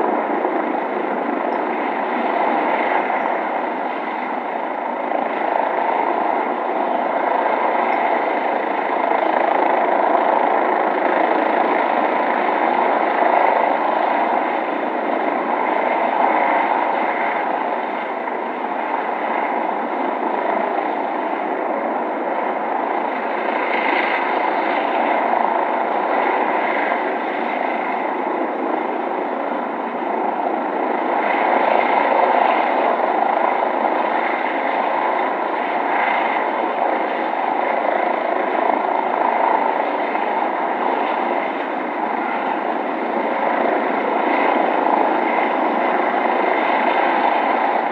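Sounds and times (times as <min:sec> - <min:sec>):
helicopter flying overhead: 0:00.0 - 0:47.9.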